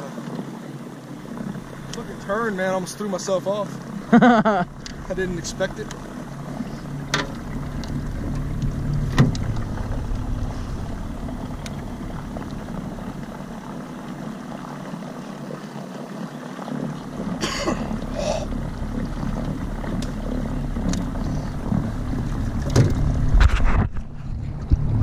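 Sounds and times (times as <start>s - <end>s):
water washing along hull: 0.0s - 25.0s
electric motor humming: 0.9s - 15.6s, 16.6s - 23.4s.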